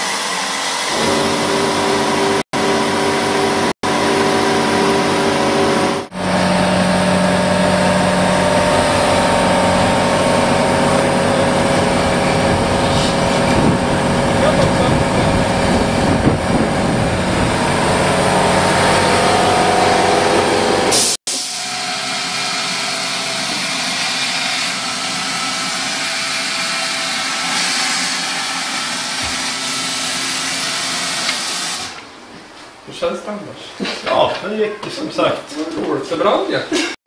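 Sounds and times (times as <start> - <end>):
gas turbine engine running: 0.0 - 32.1.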